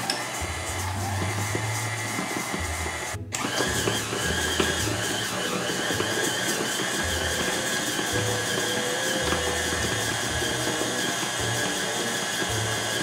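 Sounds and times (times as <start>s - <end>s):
stand mixer motor whine: 0.0s - 13.0s.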